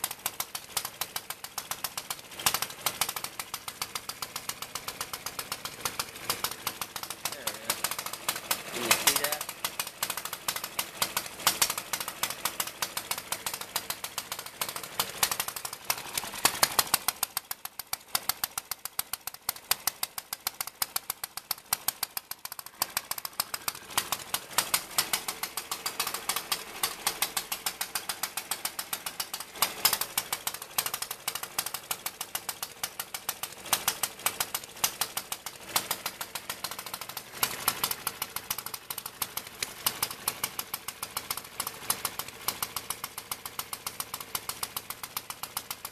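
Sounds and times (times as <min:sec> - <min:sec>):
small engine popping: 0:00.0 - 0:45.9.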